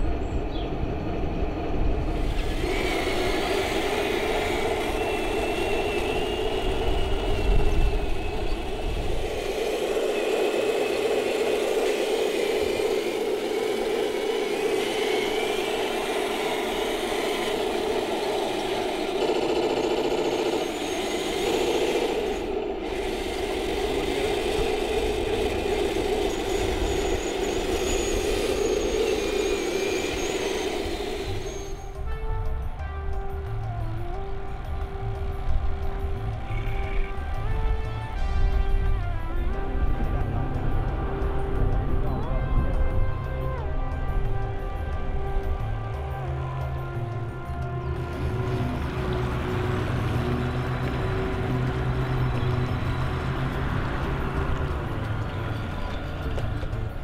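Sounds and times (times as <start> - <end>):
model tank mechanical whir: 1.7 - 57.0.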